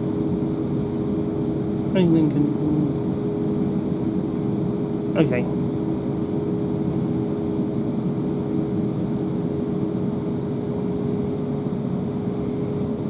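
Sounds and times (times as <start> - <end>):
two-tone electrical hum: 0.0 - 13.0.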